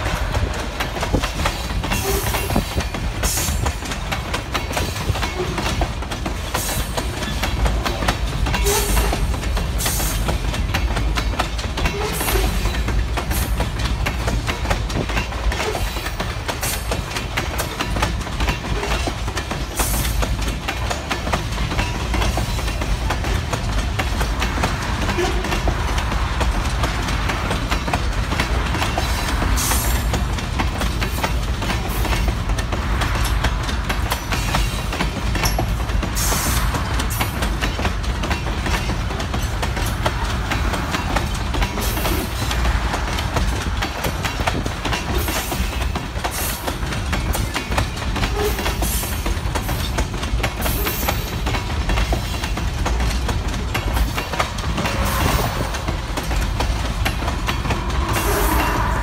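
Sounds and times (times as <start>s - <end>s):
freight train rumbling past: 0.0s - 59.0s
wheels clattering over rail joints: 0.0s - 59.0s.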